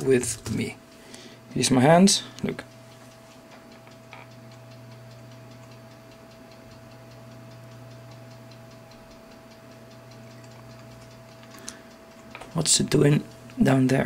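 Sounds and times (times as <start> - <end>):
faint steady machine hum: 0.0 - 14.0
soft even machine ticking: 0.0 - 14.0.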